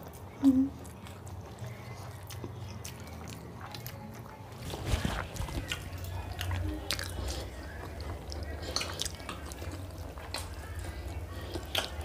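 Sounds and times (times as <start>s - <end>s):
chewing with wet mouth clicks: 0.0s - 12.0s
low steady hum: 0.0s - 12.0s.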